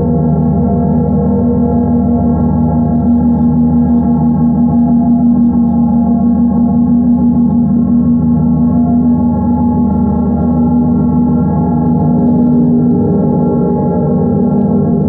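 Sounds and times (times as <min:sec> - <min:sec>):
bells ringing drone: 0:00.0 - 0:15.0.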